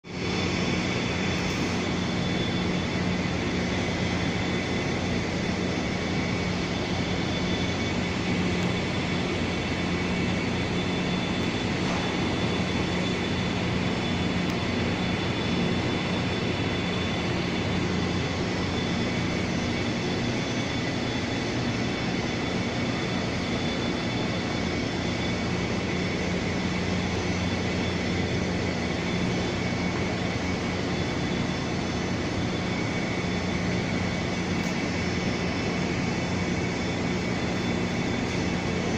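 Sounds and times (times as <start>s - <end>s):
steady rushing drone: 0.0s - 38.9s.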